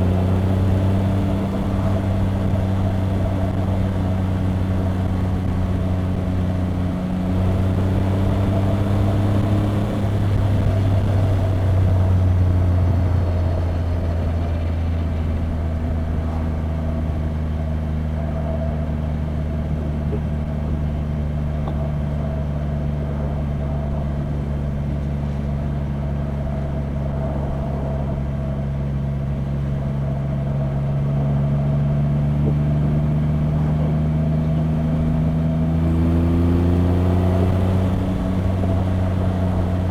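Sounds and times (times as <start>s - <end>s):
motorcycle engine running: 0.0s - 26.8s, 29.3s - 39.9s.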